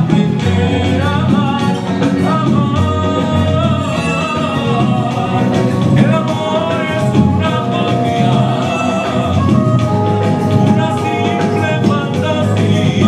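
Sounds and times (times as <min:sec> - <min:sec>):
backing music: 0:00.0 - 0:13.0
man singing: 0:00.0 - 0:13.0.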